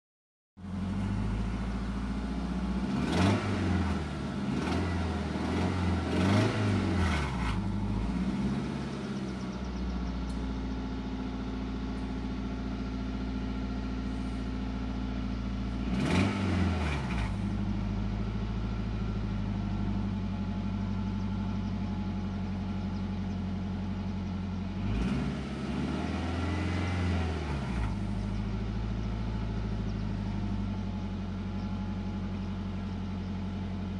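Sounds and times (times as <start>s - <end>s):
car engine idling and revving: 0.6s - 33.9s.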